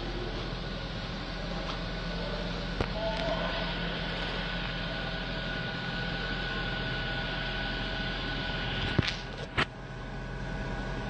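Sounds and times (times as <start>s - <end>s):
faint high whine: 0.0s - 11.0s
steady hum and hiss: 0.0s - 11.0s.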